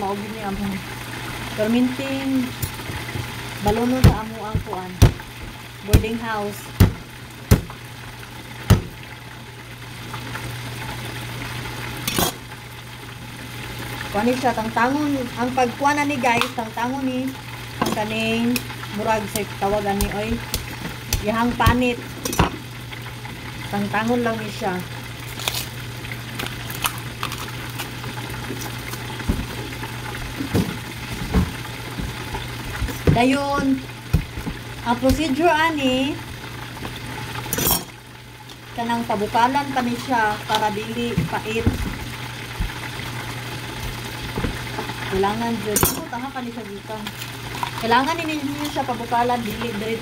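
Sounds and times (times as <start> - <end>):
low hum and hiss: 0.0 - 50.0.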